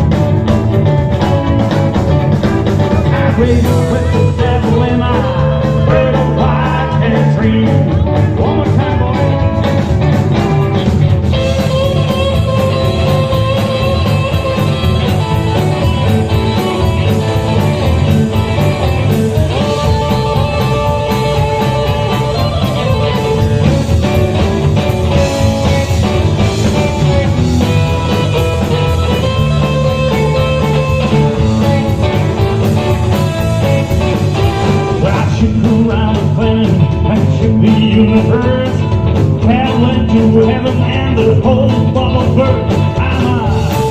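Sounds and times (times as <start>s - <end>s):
lead guitar: 0.0s - 43.9s
rock band playing: 0.0s - 43.9s.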